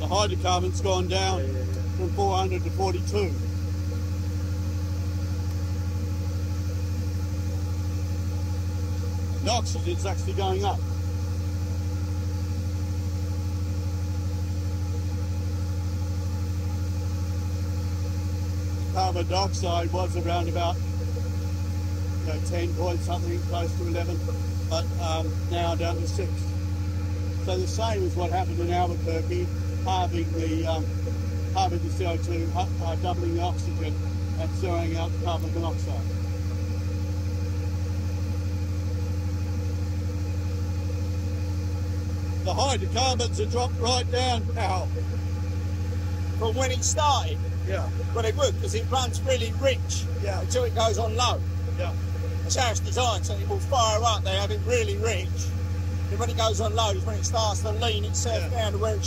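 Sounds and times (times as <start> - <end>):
generator engine droning: 0.0 - 59.0.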